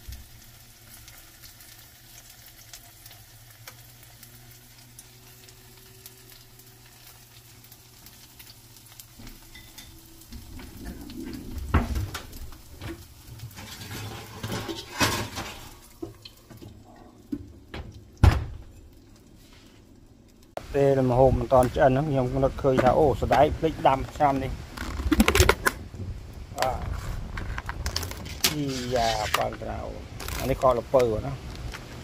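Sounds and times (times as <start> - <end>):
egg frying in a pan: 0.0 - 32.0.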